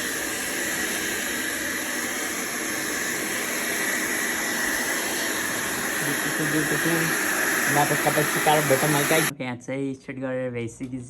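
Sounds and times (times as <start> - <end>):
hair dryer blowing: 0.0 - 9.3.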